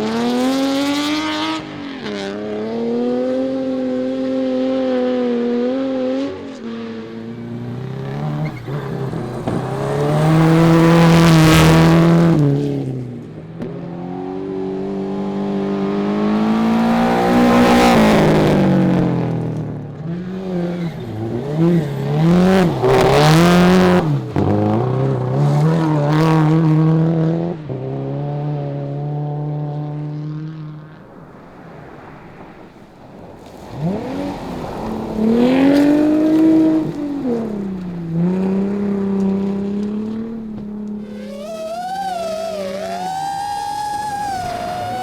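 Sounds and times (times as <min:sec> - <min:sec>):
car passing by: 0:00.0 - 0:45.0
rally car engines revving: 0:00.0 - 0:45.0.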